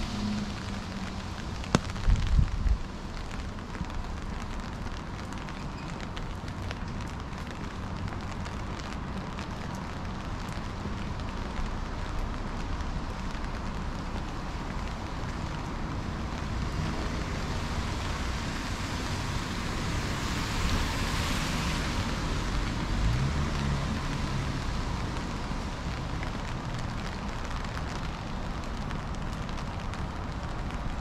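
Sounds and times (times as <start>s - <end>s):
car tyres hissing on wet road: 0.0s - 31.0s
rain falling: 0.0s - 31.0s.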